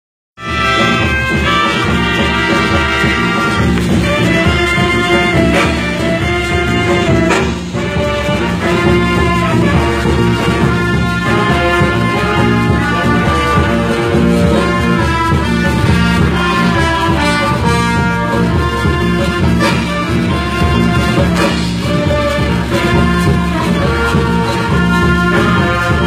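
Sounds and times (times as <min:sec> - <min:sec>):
orchestra playing: 0:00.4 - 0:26.0
trumpets and trombones: 0:00.4 - 0:26.0.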